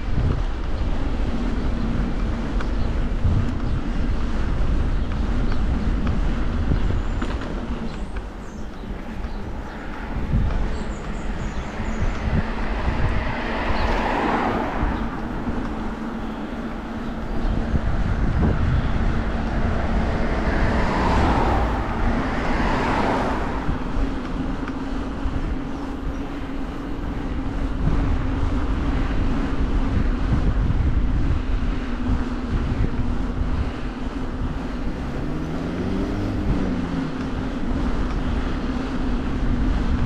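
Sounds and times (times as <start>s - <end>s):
cars passing by: 0.0s - 40.0s
wind rumbling on microphone: 0.0s - 40.0s.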